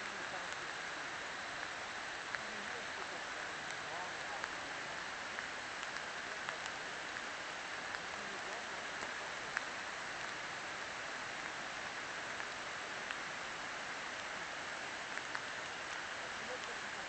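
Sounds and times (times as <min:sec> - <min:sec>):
light rain hissing: 0:00.0 - 0:17.0
water drips ticking: 0:00.0 - 0:17.0.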